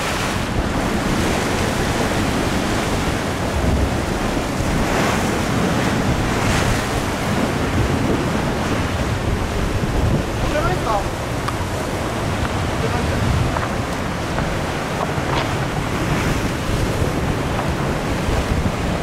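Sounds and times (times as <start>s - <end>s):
surf breaking on rocks: 0.0s - 19.0s
wind buffeting microphone: 0.0s - 19.0s.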